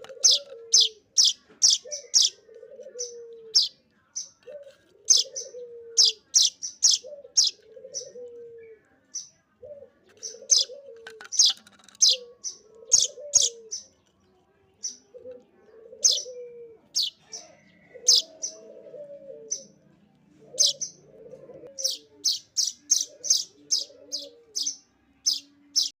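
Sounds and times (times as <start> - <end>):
chick begging chirps: 0.1 - 8.8, 9.6 - 13.9, 14.8 - 19.8, 20.5 - 25.9.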